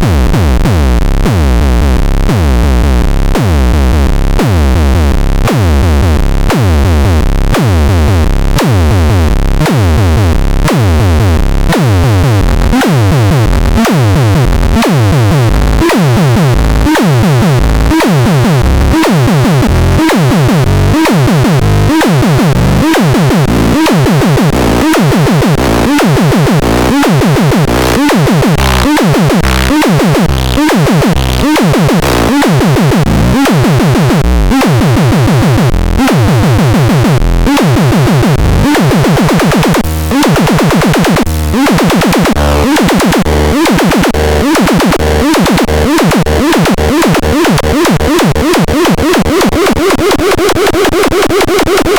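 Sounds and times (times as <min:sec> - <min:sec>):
bass-heavy synthesizer: 0:00.0 - 0:51.9
drum-machine beat: 0:00.0 - 0:51.9.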